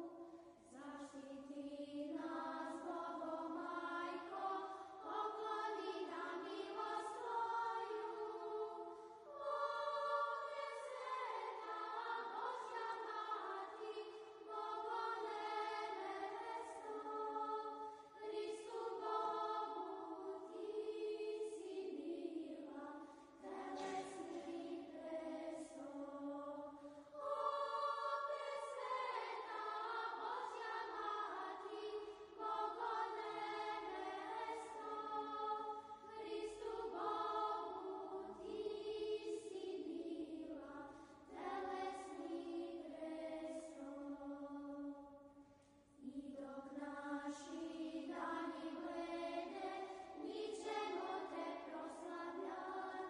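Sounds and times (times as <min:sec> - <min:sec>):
choir singing a hymn: 0:00.0 - 0:45.2, 0:46.0 - 0:53.0.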